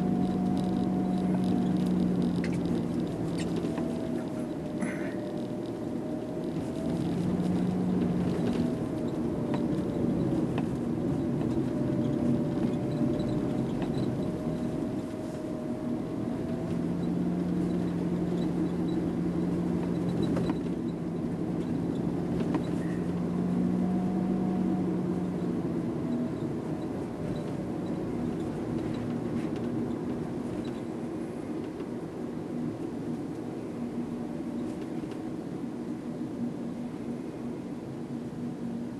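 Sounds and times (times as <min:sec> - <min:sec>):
tyre noise on road: 0:00.0 - 0:35.4
car engine hum: 0:00.0 - 0:38.9.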